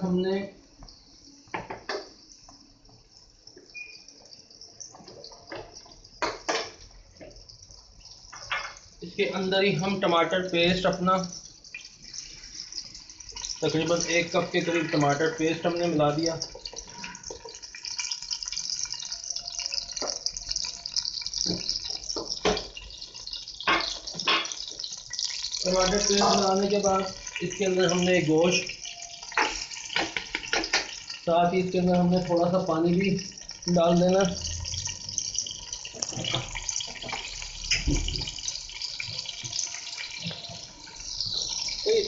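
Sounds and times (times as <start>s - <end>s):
oil popping: 0.8s - 42.0s
paste sizzling in hot oil: 0.9s - 42.0s.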